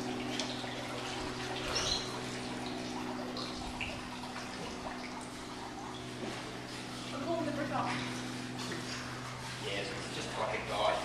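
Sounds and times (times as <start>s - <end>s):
water splashing and dripping: 0.0s - 10.7s
steady low hum: 0.0s - 11.0s.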